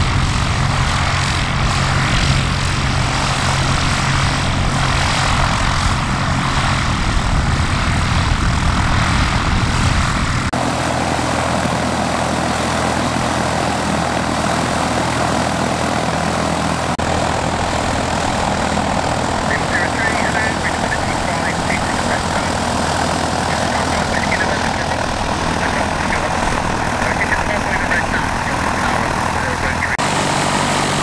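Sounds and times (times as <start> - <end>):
propeller aircraft engine: 0.0 - 31.0.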